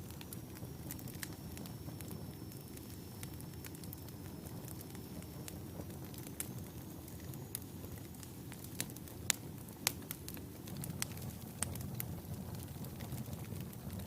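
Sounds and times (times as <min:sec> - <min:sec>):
fire burning rumble: 0:00.0 - 0:14.0
fire crackling and popping: 0:00.0 - 0:14.0.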